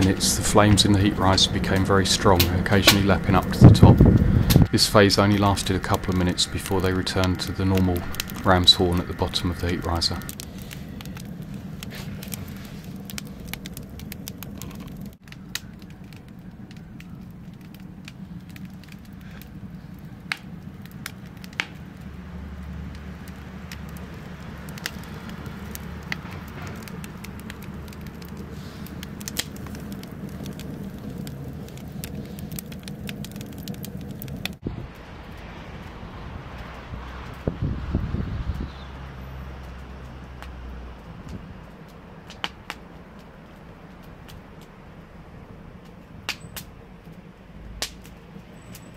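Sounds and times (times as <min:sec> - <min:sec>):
low burner rumble: 0:00.0 - 0:48.9
wood fire crackling: 0:00.0 - 0:48.9.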